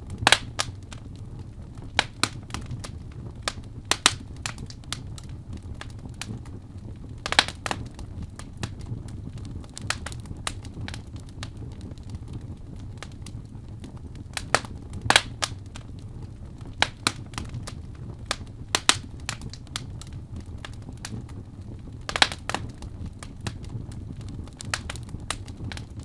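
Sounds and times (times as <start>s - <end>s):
fire low roar: 0.0s - 26.0s
wood fire crackling and popping: 0.0s - 26.0s.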